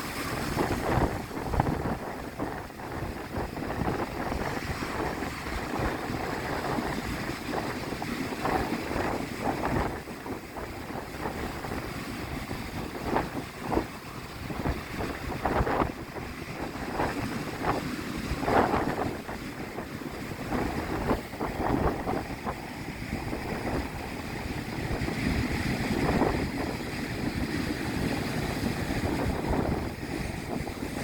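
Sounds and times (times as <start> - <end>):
sea waves breaking and splashing: 0.0 - 31.0
wind buffeting microphone: 0.0 - 31.0.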